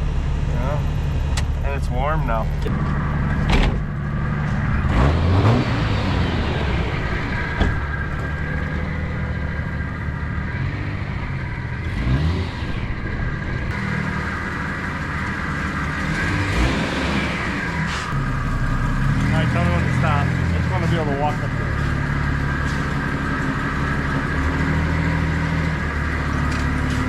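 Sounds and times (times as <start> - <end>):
vehicle engine revving: 0.0 - 27.0.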